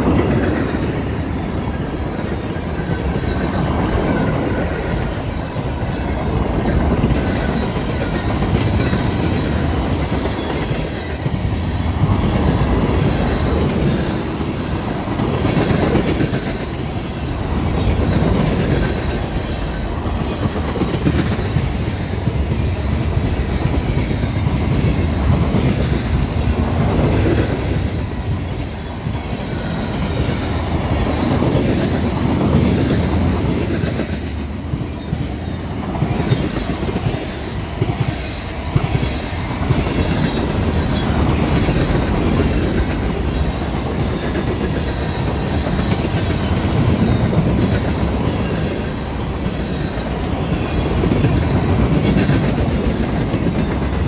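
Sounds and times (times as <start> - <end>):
low train rumble: 0.0 - 54.0
train wheels clacking over rail joints: 0.0 - 54.0.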